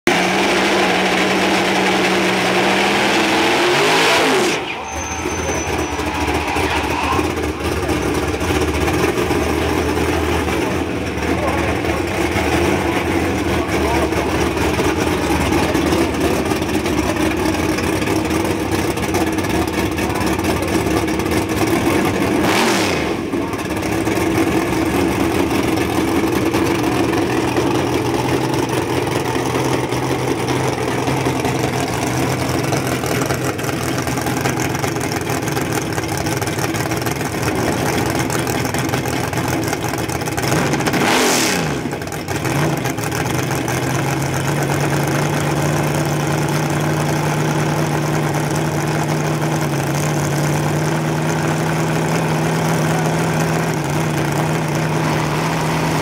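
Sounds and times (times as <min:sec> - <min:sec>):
race car engine idling and revving: 0:00.0 - 0:56.0.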